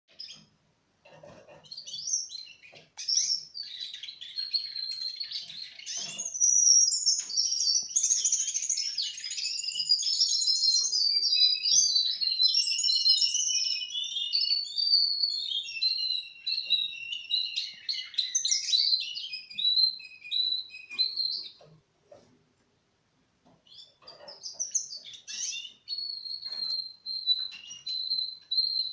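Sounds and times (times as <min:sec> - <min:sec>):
canary singing trills: 0:00.1 - 0:22.3, 0:23.4 - 0:28.9.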